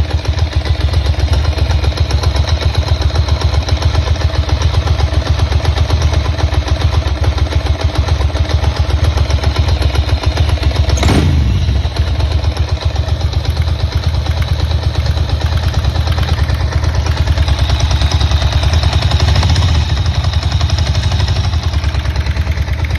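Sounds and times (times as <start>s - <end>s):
motorcycle engine idling: 0.0s - 22.9s.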